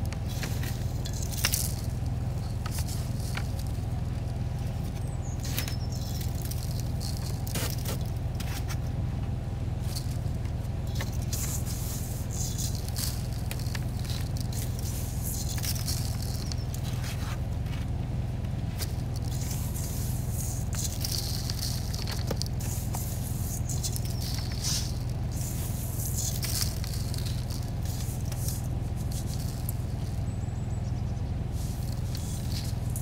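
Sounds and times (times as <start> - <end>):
grains patting and scraping: 0.0 - 9.0, 9.7 - 30.4, 31.4 - 33.0
steady low hum: 0.0 - 33.0.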